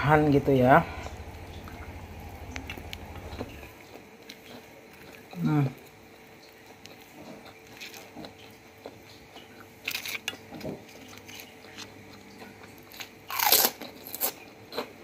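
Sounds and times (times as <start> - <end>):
cracker crunching being chewed: 1.0 - 15.0.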